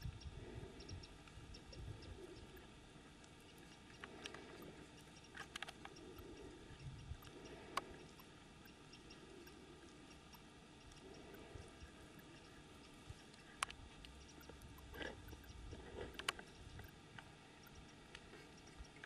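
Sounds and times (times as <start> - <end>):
soft clicks: 0.0 - 19.0.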